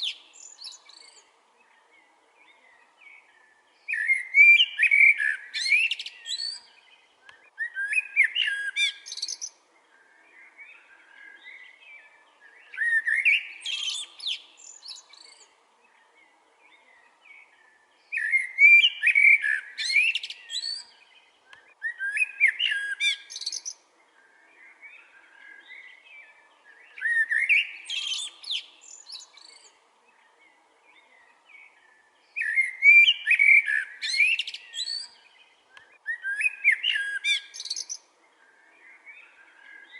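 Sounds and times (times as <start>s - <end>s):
soft bird chirps: 0.0s - 39.9s
songbirds singing: 0.0s - 39.9s.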